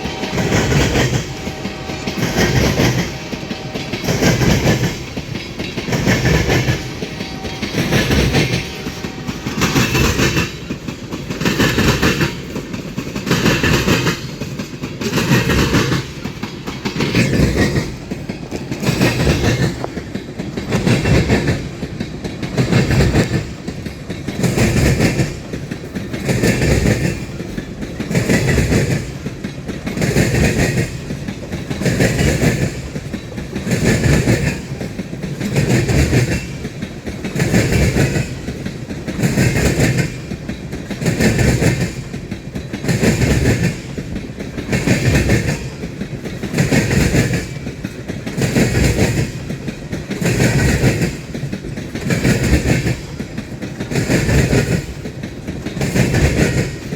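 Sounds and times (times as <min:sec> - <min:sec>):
freight train wheels clickety-clack: 0:00.0 - 0:56.9.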